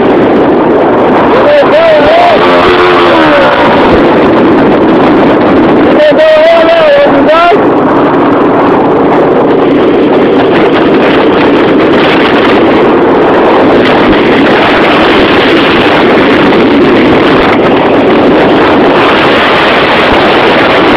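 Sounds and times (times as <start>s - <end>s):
motorcycle engine running: 0.0s - 6.1s, 7.3s - 20.9s
wind buffeting microphone: 0.0s - 20.9s.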